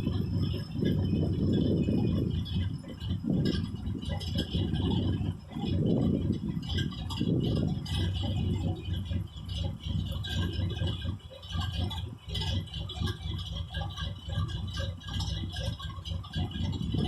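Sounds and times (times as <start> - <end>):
engine idling unevenly: 0.0 - 17.0.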